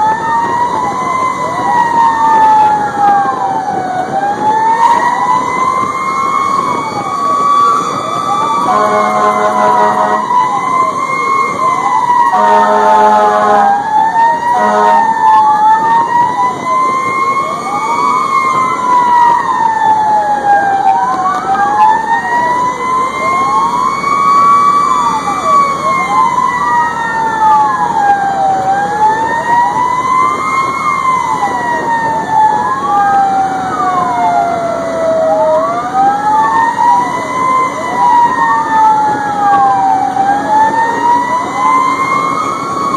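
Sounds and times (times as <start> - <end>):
fire engine horn: 0.0 - 42.9
siren sweeping quickly: 0.0 - 42.9
siren wailing slowly: 0.0 - 42.9.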